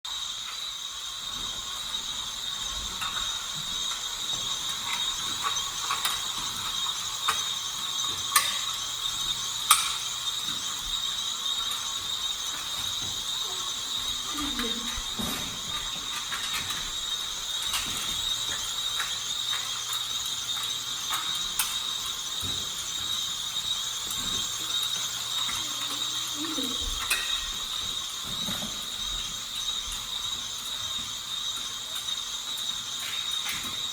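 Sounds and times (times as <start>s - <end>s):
electric motor whine: 0.1s - 33.9s
toy clicks and rattles: 0.3s - 33.9s.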